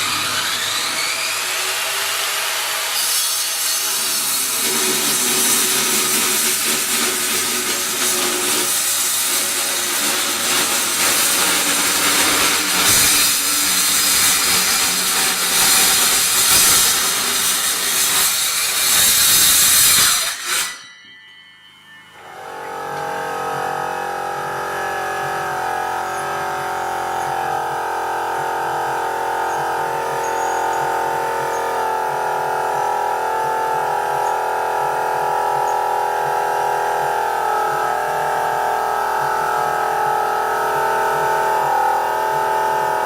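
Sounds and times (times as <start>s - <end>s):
electric saw cutting board: 0.0s - 20.8s, 22.2s - 43.0s.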